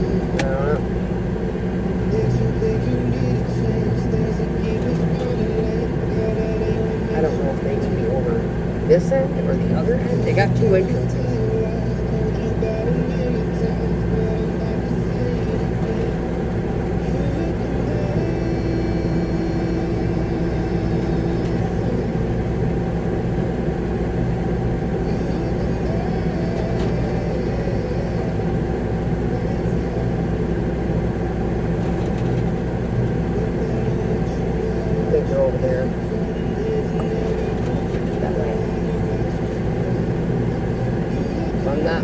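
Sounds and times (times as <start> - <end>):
diesel truck engine running: 0.0 - 42.0.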